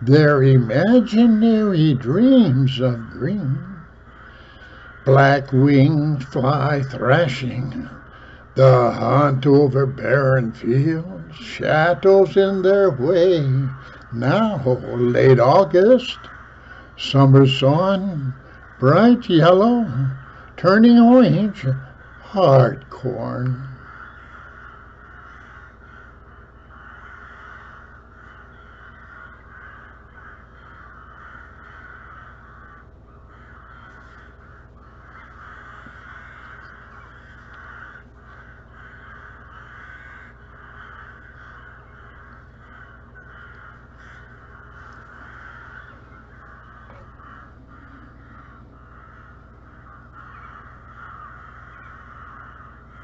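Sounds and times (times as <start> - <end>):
crows cawing: 0.0 - 53.0
steady low hum: 0.0 - 53.0.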